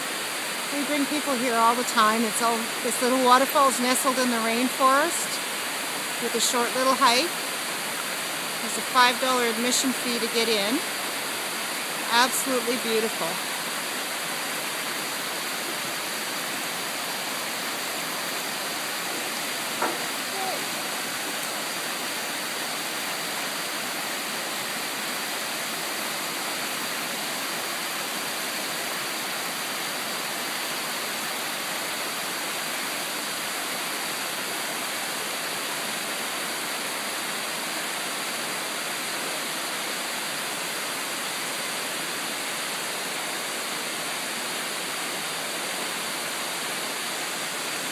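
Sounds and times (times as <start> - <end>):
waterfall and stream rushing: 0.0 - 47.9.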